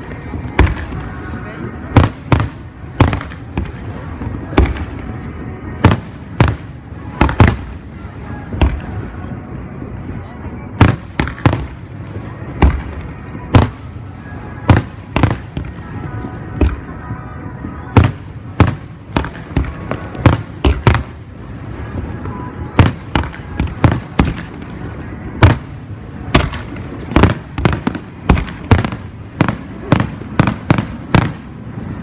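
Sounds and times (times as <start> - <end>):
crowd murmur: 0.0 - 32.0
fireworks bursting: 0.0 - 32.0.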